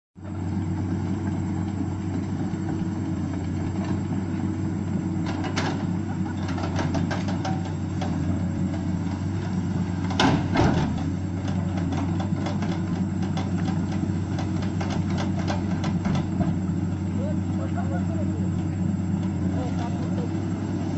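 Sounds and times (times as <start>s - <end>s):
diesel engine running: 0.2s - 20.9s.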